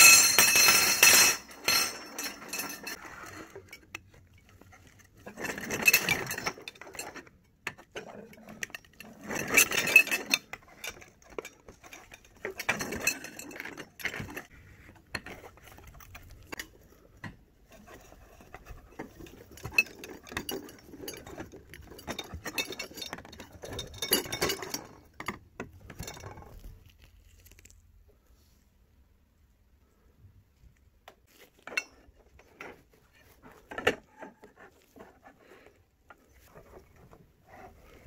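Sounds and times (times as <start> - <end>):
metal tubes clinking and rolling: 0.0 - 26.8, 31.3 - 38.0.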